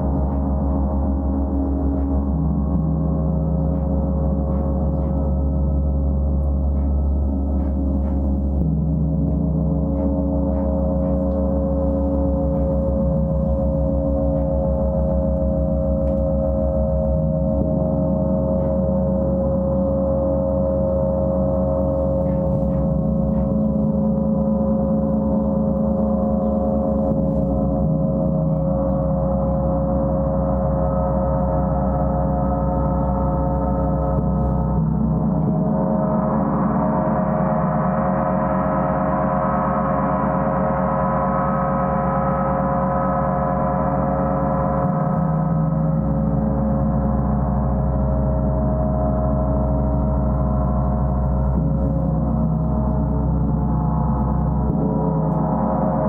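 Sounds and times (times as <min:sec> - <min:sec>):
gong played continuously: 0:00.0 - 0:56.0.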